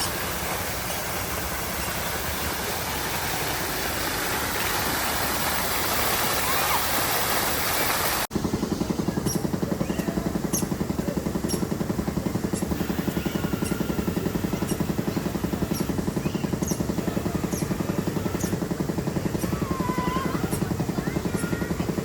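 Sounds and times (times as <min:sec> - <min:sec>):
motor pulsing throb: 0:00.0 - 0:22.0.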